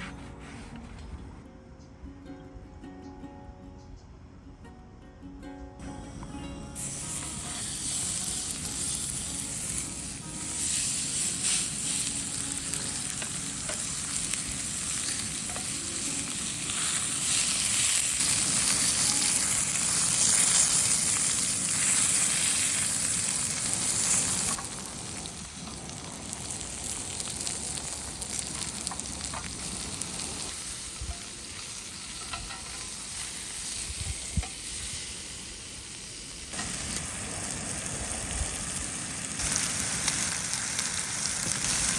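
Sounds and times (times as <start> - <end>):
food sizzling in a frying pan: 6.7 - 41.9.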